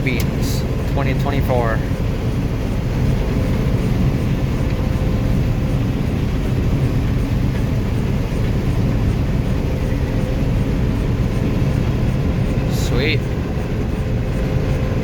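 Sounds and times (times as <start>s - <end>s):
faint machine whine: 0.0s - 15.0s
harvester low rumble: 0.0s - 15.0s.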